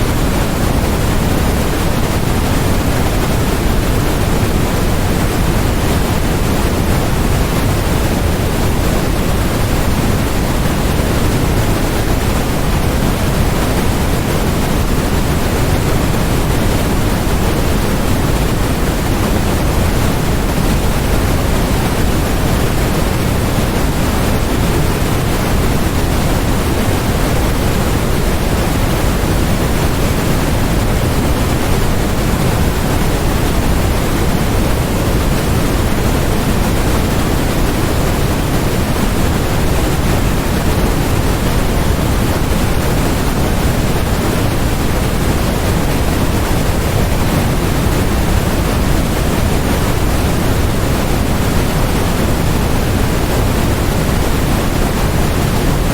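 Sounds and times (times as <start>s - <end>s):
electronic pink noise: 0.0s - 55.9s.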